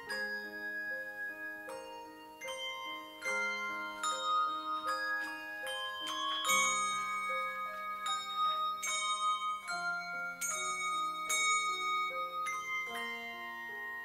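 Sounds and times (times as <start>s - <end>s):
handbell choir ringing chords: 0.0s - 14.0s.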